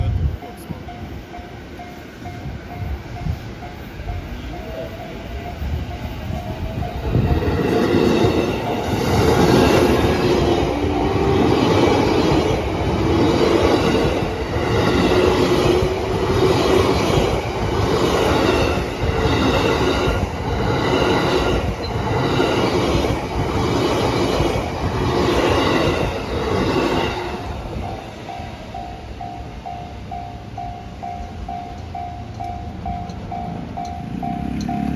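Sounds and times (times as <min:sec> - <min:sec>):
level crossing warning bell: 0:00.0 - 0:34.9.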